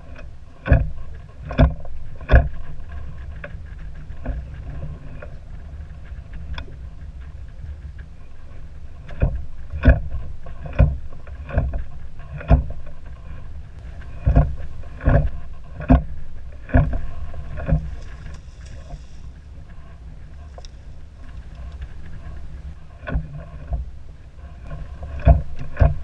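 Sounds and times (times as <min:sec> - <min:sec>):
water slapping boat hull: 0:00.0 - 0:26.0
wind rumble on microphone: 0:00.0 - 0:26.0.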